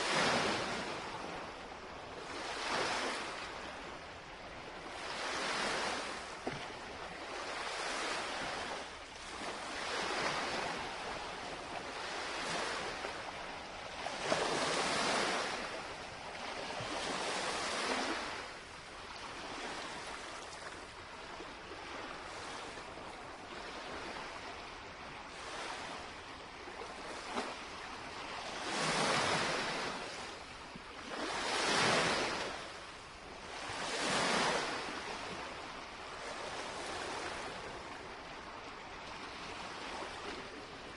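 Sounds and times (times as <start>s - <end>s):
lake waves lapping on shore: 0.0s - 40.9s.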